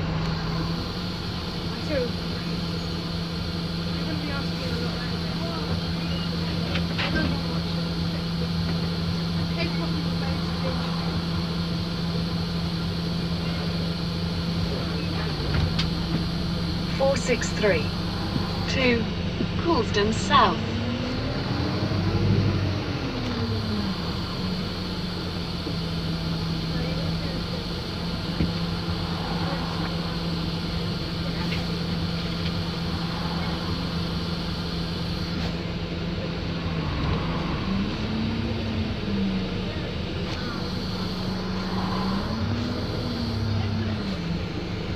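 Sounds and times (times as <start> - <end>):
bus engine humming: 0.0 - 44.9.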